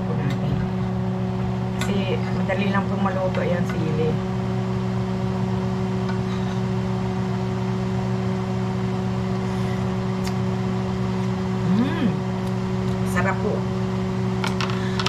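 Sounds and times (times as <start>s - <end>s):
appliance electric hum: 0.0s - 15.0s.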